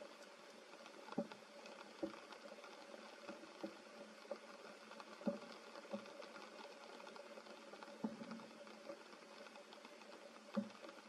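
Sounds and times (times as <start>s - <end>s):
faint steady hum: 0.0s - 11.0s
light rain pattering on leaves: 0.0s - 11.0s.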